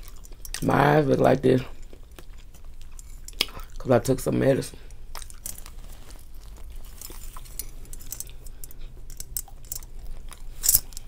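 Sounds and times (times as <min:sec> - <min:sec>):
person chewing burger: 0:00.0 - 0:01.0, 0:01.7 - 0:03.9, 0:04.9 - 0:11.0.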